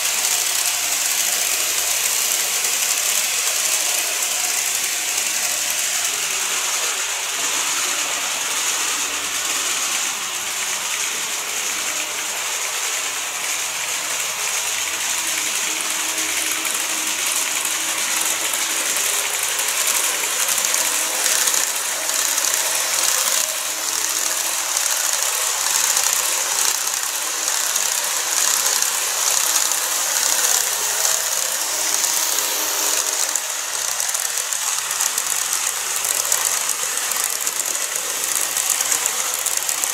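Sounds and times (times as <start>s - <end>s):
faint motor whine: 0.0s - 39.9s
model train wheels rattling on rails: 0.0s - 39.9s.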